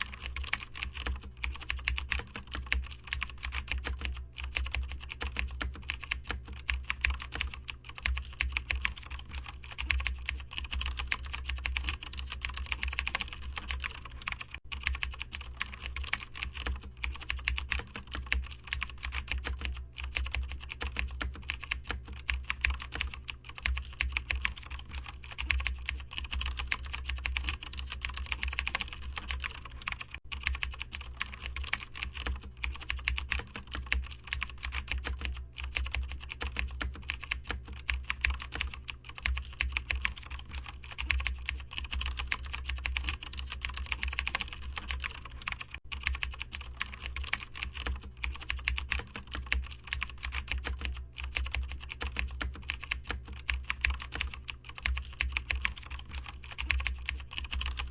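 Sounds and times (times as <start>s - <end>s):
steady low hum: 0.0s - 57.9s
typing on a computer keyboard: 0.0s - 57.9s.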